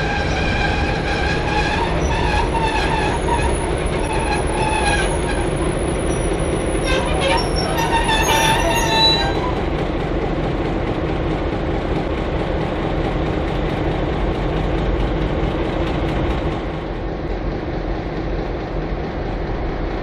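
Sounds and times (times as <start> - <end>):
diesel locomotive engine idling: 0.0 - 20.0.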